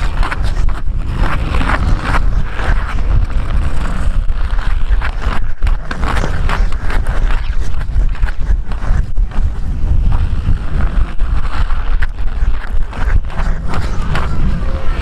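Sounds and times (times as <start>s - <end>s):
skate blades scraping ice: 0.0s - 15.0s
wind rumble on microphone: 0.0s - 15.0s.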